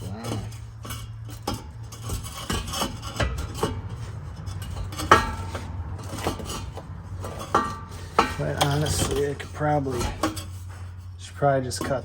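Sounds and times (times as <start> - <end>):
metal exhaust pipe clanking: 0.0 - 12.0.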